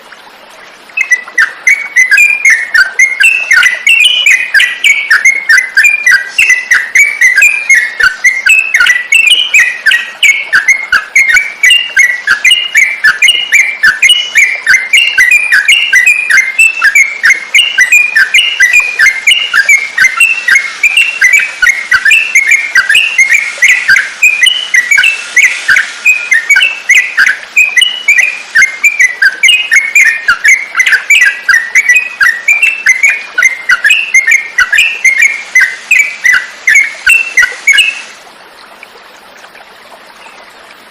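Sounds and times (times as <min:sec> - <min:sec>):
bulbul chirping song: 0:00.9 - 0:38.2.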